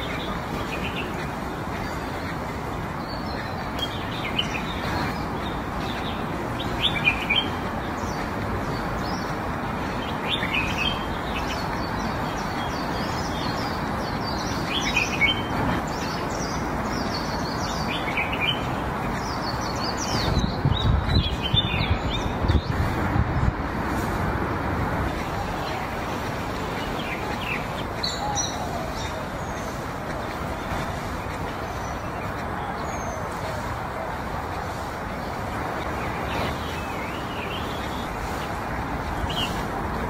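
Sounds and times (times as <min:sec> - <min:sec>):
outdoor background hiss: 0:00.0 - 0:40.0
small birds chirping: 0:00.0 - 0:40.0.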